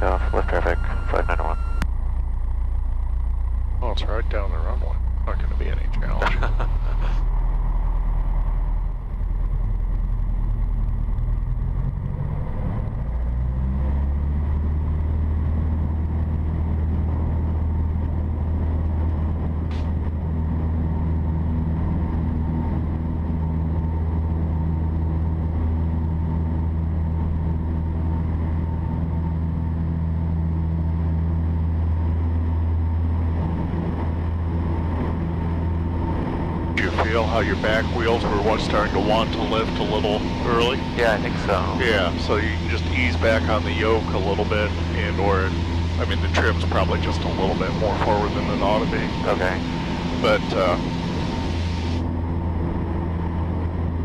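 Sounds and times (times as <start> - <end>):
propeller plane engine: 0.0 - 54.0.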